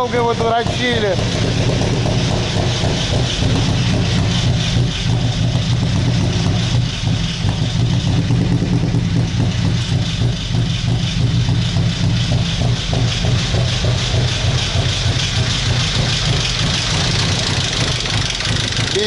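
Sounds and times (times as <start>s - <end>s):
car engine misfiring: 0.0s - 19.0s
engine ticking and knocking: 0.0s - 19.0s.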